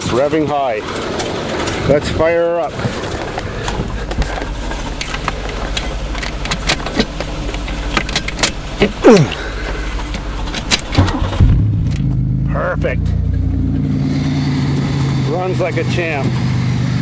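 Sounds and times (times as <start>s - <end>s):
car engine starting and running: 0.0s - 17.0s.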